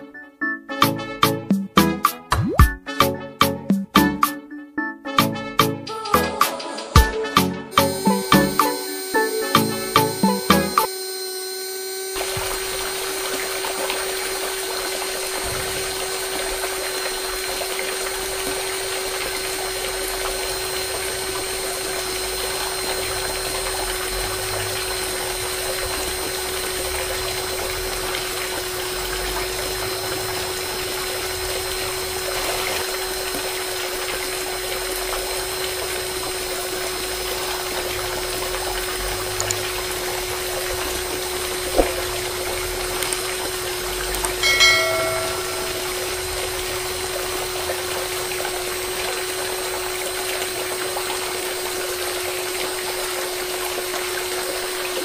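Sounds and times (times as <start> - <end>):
small motor humming: 7.7 - 55.0.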